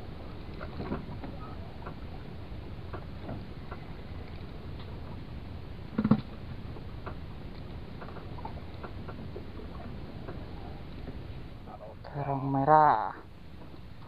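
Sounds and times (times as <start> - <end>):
wind and sea: 0.0 - 14.0.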